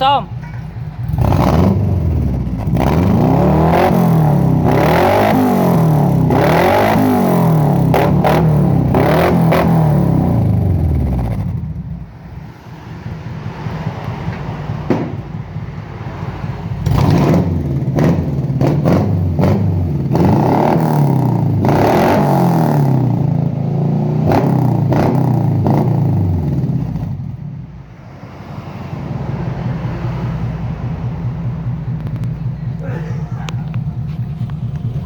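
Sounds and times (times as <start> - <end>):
car engine revving: 0.8 - 35.0.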